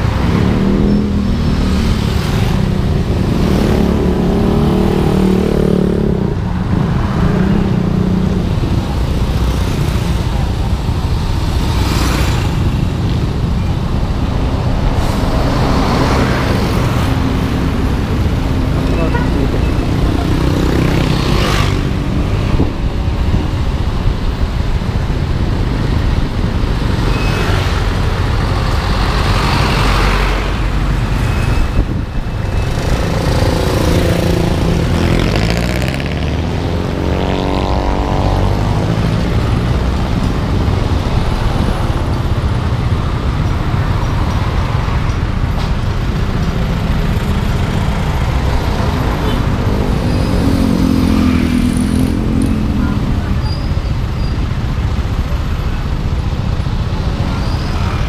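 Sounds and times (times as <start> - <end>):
traffic engines running: 0.0 - 58.0.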